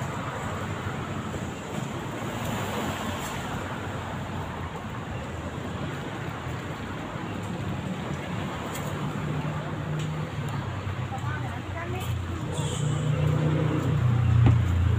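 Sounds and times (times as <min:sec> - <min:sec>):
road traffic hum: 0:00.0 - 0:14.9.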